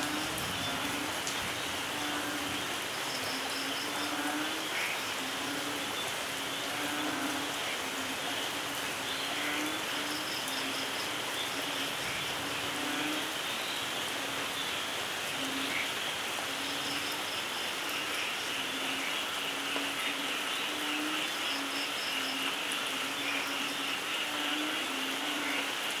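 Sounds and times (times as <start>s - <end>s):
frogs calling: 0.0s - 26.0s
steady rainfall: 0.0s - 26.0s.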